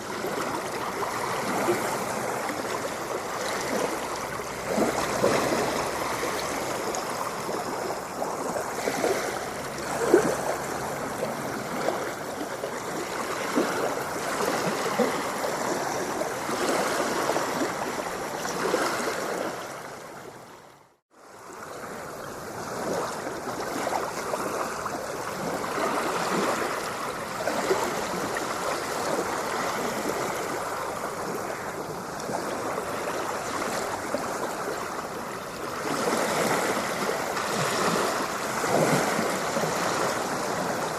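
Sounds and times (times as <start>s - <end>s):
ocean waves splashing: 0.0s - 40.9s.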